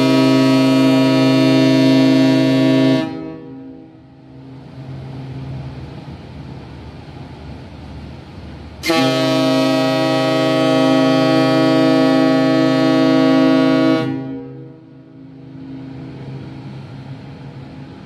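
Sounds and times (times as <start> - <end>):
ship horn deep blast: 0.0 - 6.0, 8.8 - 17.9.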